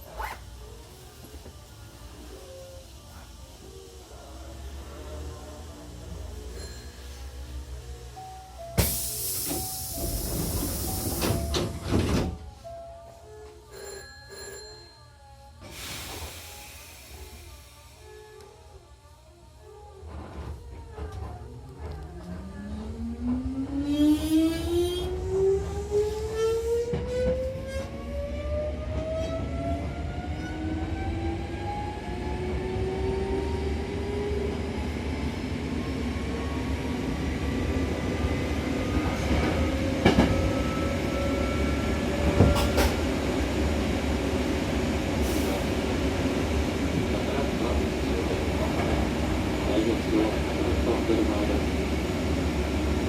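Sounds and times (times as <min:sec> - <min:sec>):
train running noise: 0:00.5 - 0:12.8, 0:19.6 - 0:53.0.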